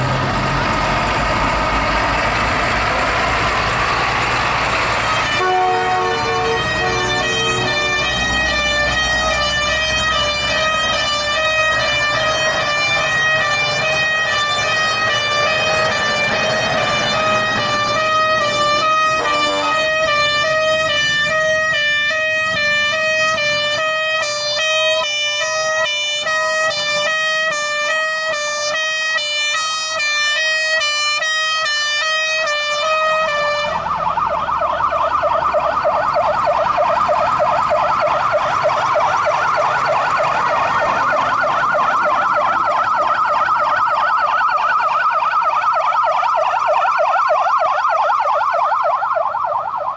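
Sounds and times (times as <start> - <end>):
emergency siren: 0.0 - 49.9.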